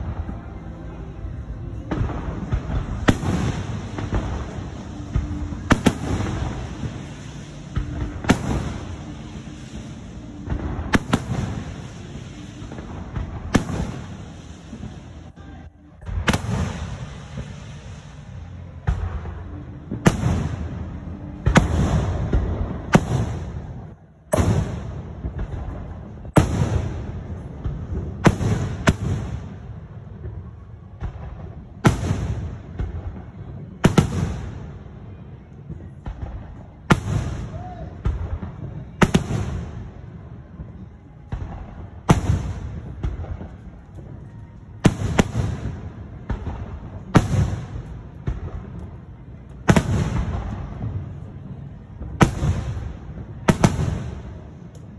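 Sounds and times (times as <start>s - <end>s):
fireworks bursting with echoing rumble: 0.0s - 54.9s.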